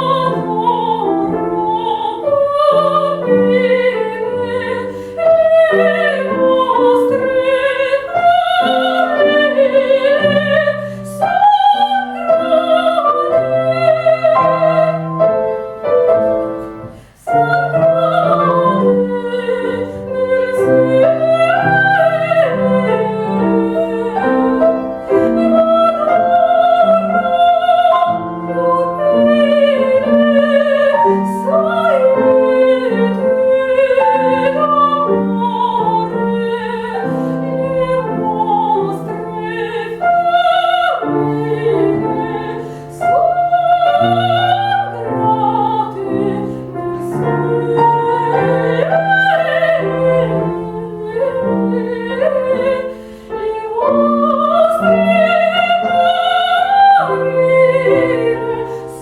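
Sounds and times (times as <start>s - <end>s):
piano accompaniment: 0.0s - 59.0s
woman singing opera: 0.0s - 59.0s.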